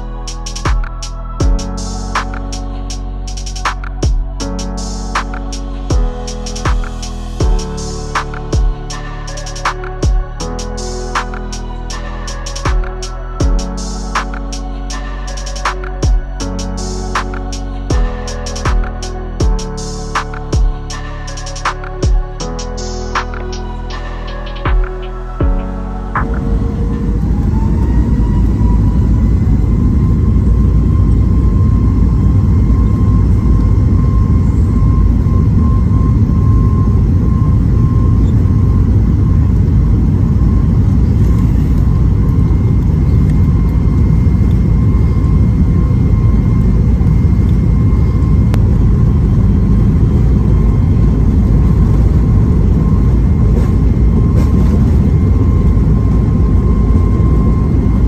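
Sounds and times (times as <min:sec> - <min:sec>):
high fan tone: 0:00.0 - 0:58.0
jet engines rumbling: 0:00.0 - 0:58.0.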